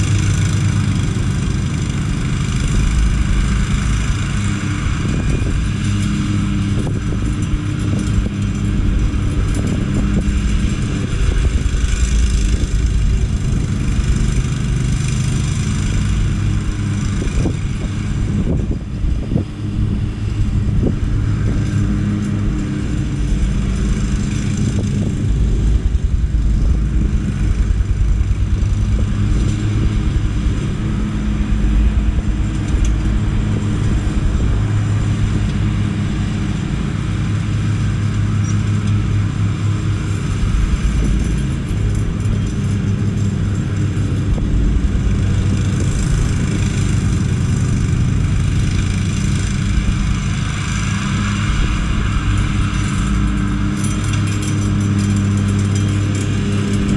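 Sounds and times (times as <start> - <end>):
lawn mower engine running: 0.0 - 56.9.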